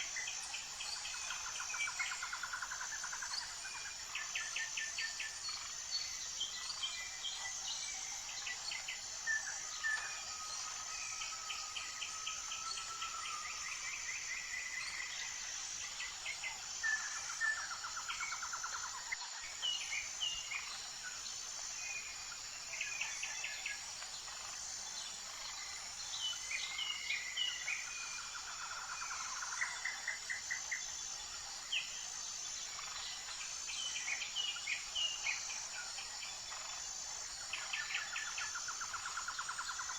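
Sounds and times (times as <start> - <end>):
pulsing insect chorus: 0.0 - 39.9.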